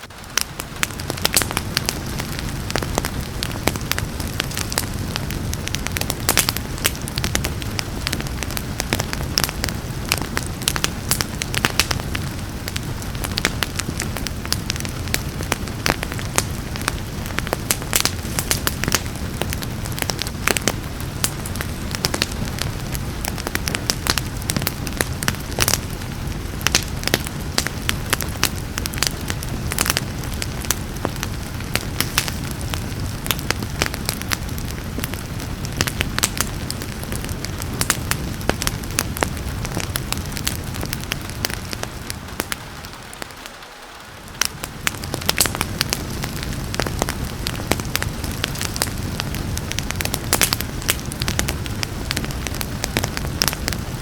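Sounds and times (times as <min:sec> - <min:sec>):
low rumble of flames: 0:00.0 - 0:54.0
rain pattering: 0:00.0 - 0:54.0
wood fire crackling and popping: 0:00.0 - 0:54.0.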